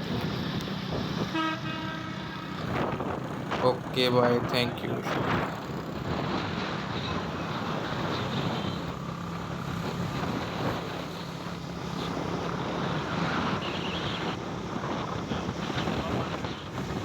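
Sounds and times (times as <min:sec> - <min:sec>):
vehicle humming on road: 0:00.0 - 0:17.0
wind buffeting microphone: 0:00.0 - 0:17.0.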